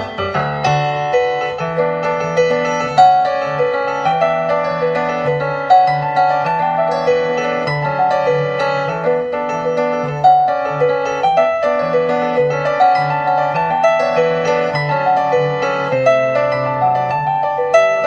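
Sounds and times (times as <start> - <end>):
piano playing chords and melody: 0.0 - 18.0.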